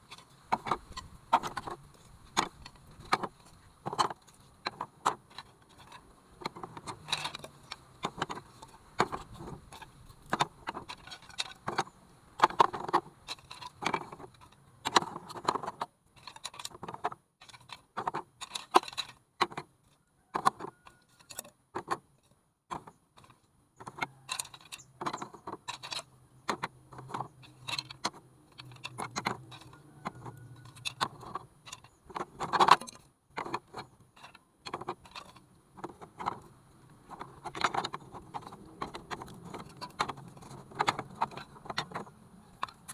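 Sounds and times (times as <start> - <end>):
model truck rattling and clattering: 0.0 - 22.1, 22.7 - 42.9.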